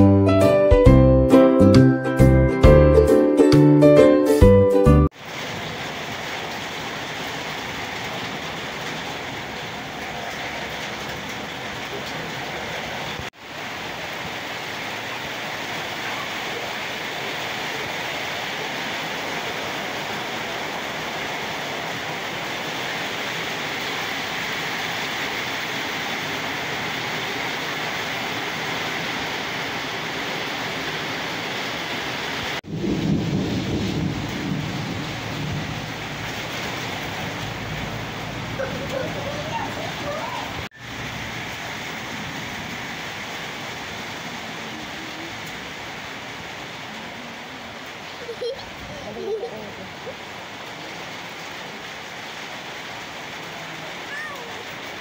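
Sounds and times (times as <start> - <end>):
rain falling on road: 5.1 - 55.0
vehicle passing on wet road: 5.1 - 55.0.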